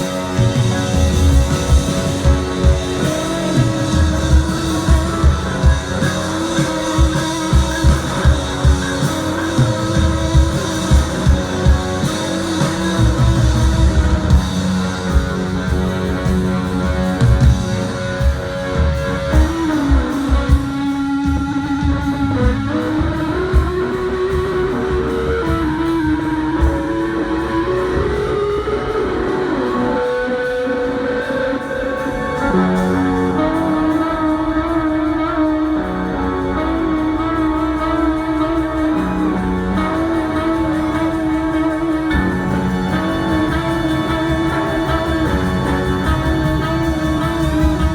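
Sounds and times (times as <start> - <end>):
electric guitar melody: 0.0 - 47.9
rock band playing: 0.0 - 47.9.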